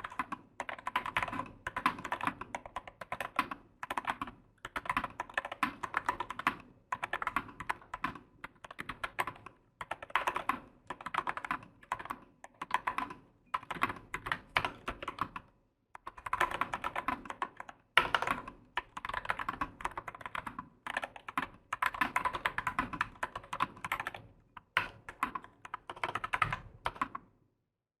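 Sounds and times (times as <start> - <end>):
mechanical keyboard typing: 0.0 - 27.2.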